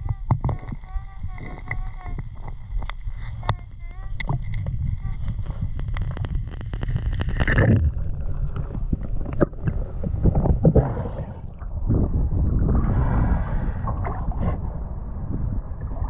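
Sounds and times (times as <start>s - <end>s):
low underwater rumble: 0.0s - 16.0s.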